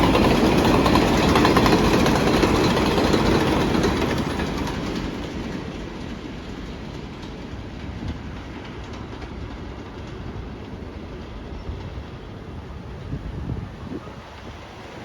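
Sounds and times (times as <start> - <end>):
subway train wheels rumbling on rail: 0.0 - 15.0.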